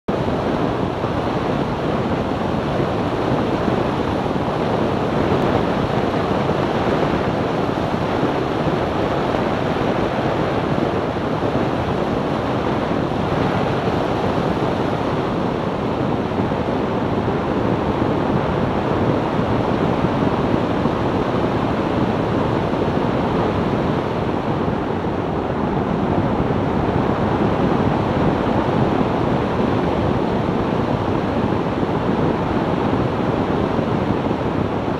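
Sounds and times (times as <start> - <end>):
rushing wind: 0.1 - 34.9.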